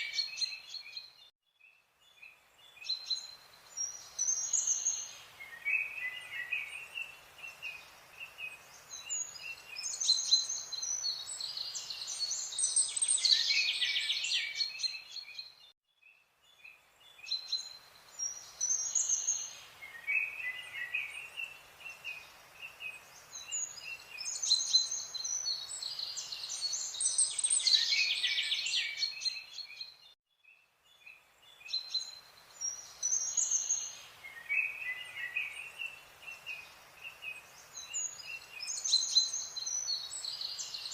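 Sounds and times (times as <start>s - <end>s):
faint hiss: 2.0s - 15.6s, 16.4s - 30.0s, 30.8s - 40.9s
birds chirping and singing: 2.1s - 15.6s, 16.6s - 30.1s, 30.9s - 40.9s.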